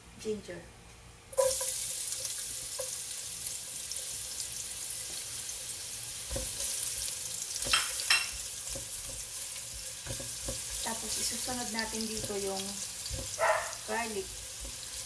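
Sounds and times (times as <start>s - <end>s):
ginger sizzling in hot oil: 1.3s - 15.0s.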